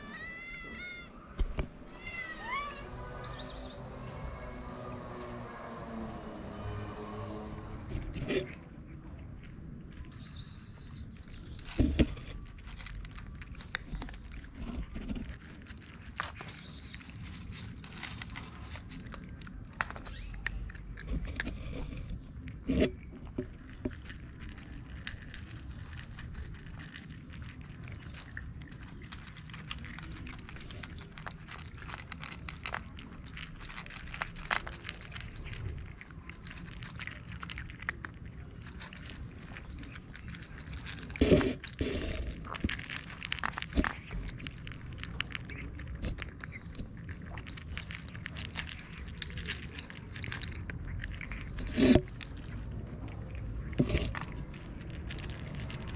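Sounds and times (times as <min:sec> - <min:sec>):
cats crunching dry kibble: 0:00.0 - 0:55.9.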